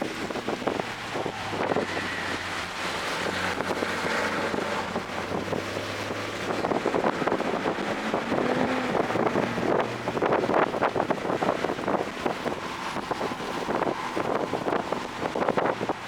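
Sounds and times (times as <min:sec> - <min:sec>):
car engine running hard: 0:00.0 - 0:16.0
wind buffeting microphone: 0:00.0 - 0:16.0.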